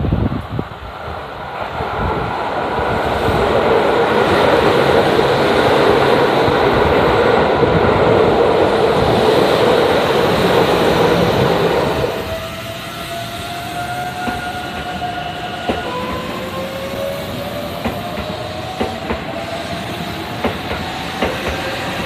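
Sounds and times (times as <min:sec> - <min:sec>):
train running past: 0:00.0 - 0:22.0.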